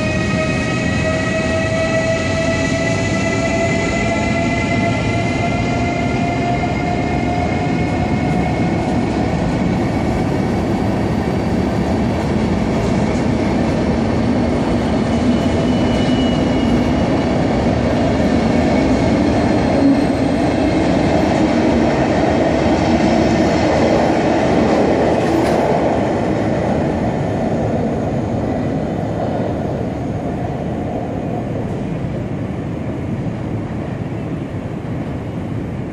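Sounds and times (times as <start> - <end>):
train coaches rumbling past: 0.0 - 35.9.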